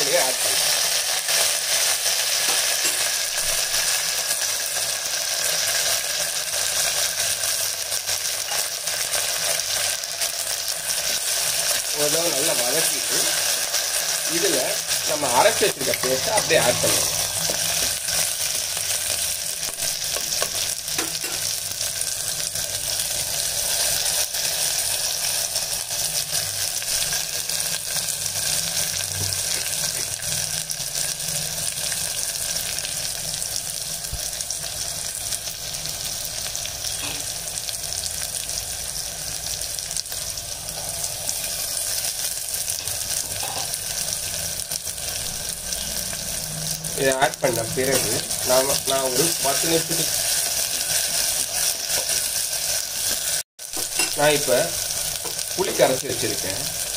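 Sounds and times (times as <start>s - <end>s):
hot oil sizzling: 0.0s - 56.9s.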